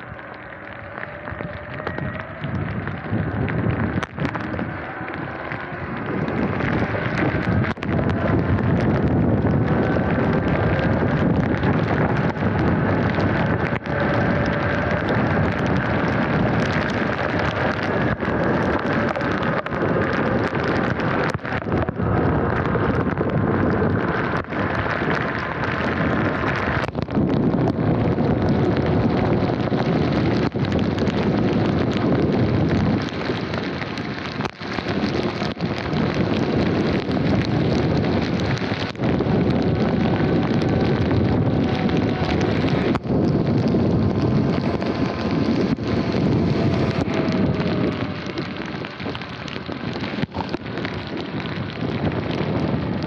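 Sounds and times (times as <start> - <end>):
wind and rain on microphone: 0.0 - 53.0.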